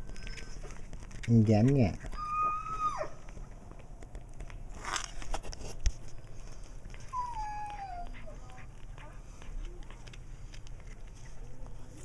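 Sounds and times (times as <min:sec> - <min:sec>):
cat chewing with crunches: 0:00.0 - 0:02.2, 0:03.1 - 0:12.0.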